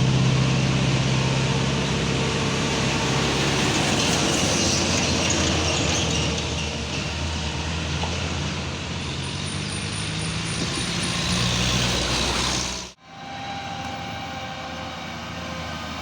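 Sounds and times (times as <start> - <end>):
bus driving past: 0.0 - 16.0
steady traffic hum: 0.0 - 16.0.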